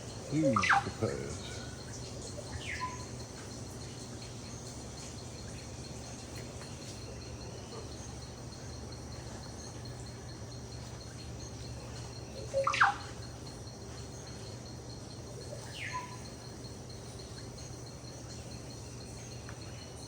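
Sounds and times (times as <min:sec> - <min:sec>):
insect trilling: 0:00.0 - 0:20.0
steady low hum: 0:00.0 - 0:20.0.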